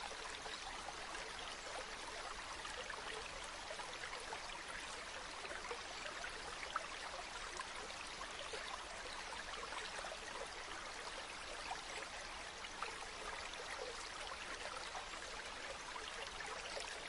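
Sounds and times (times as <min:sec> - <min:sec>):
stream babbling: 0:00.0 - 0:17.0.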